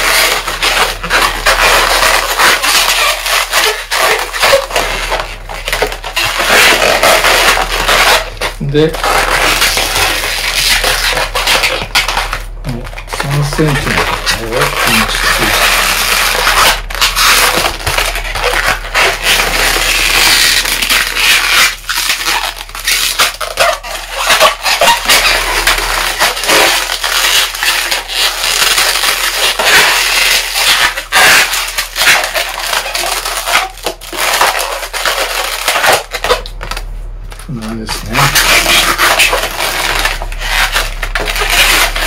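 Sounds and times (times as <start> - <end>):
sharp balloon scrapes: 0.0 - 36.8, 37.5 - 42.0
balloons rubbing together: 0.0 - 42.0.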